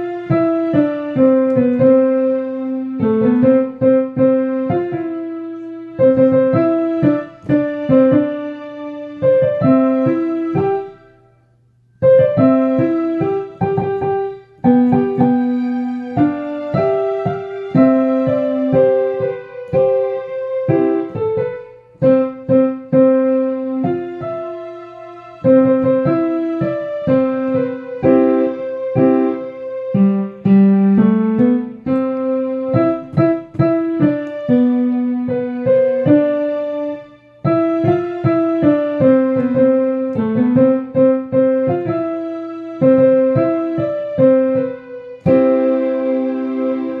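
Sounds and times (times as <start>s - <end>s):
slow piano melody: 0.0s - 47.0s.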